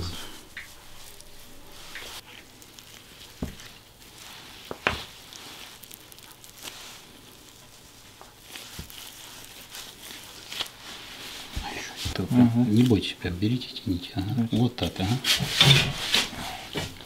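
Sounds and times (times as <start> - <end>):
bandage rustling and crackling: 0.0 - 17.0.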